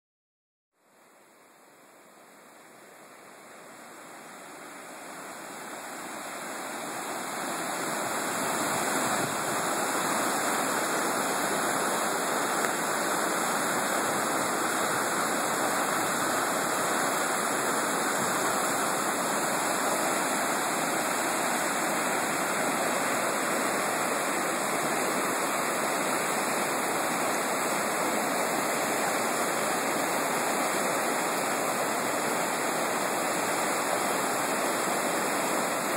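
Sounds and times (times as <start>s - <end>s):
river rapids rushing: 0.9s - 35.9s.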